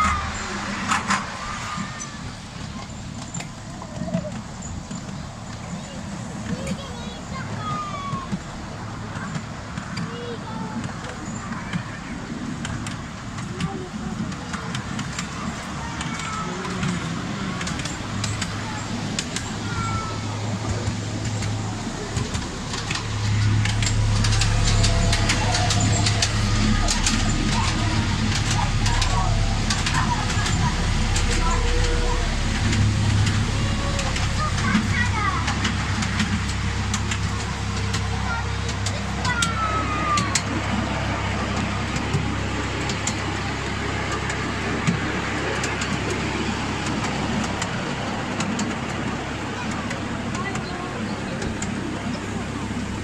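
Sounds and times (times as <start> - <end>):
train rumble: 0.0 - 53.0
train wheels clicking on rail joints: 0.0 - 53.0.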